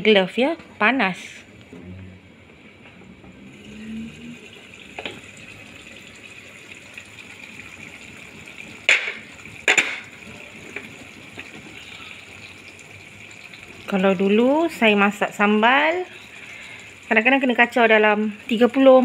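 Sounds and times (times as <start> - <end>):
sauce bubbling in a pot: 3.4 - 19.0.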